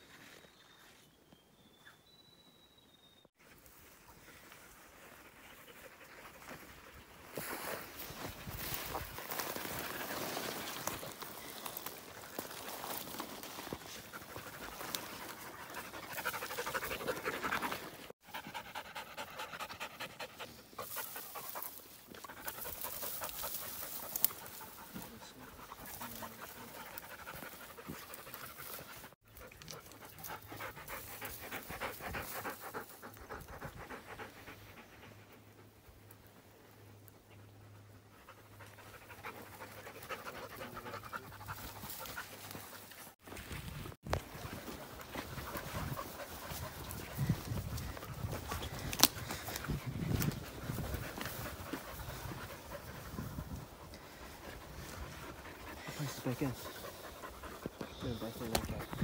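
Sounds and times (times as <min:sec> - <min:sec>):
dogs panting: 0:04.4 - 0:07.6, 0:08.2 - 0:43.2, 0:44.3 - 0:59.0.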